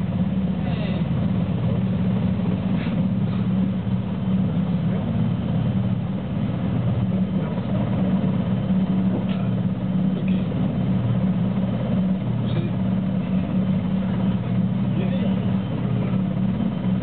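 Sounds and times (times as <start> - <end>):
helicopter engines and rotors: 0.0 - 17.0.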